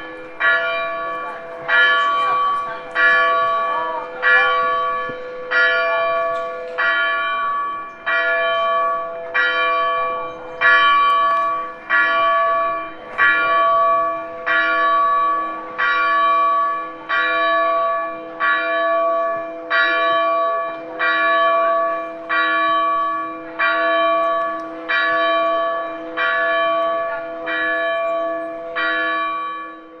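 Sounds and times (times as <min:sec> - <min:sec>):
church bell tolling: 0:00.0 - 0:30.0.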